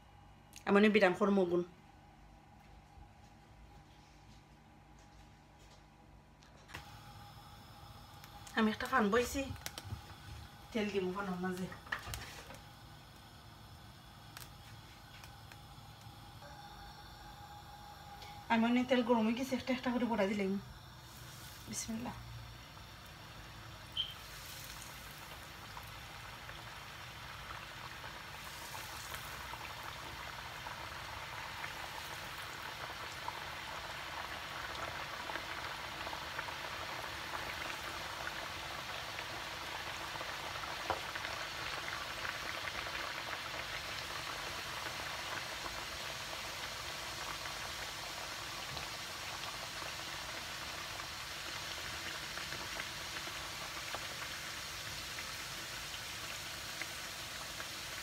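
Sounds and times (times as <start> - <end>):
dough deep-frying in hot oil: 6.7 - 58.0.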